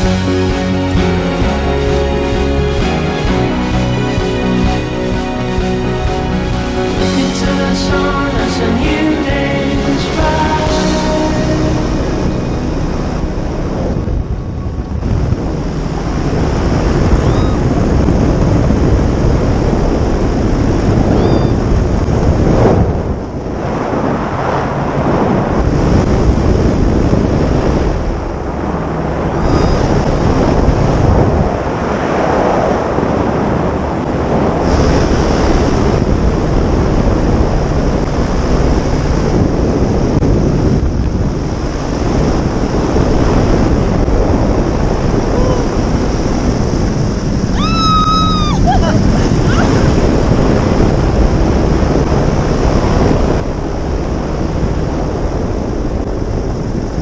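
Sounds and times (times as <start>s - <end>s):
wind gusting on microphone: 0.0s - 57.0s.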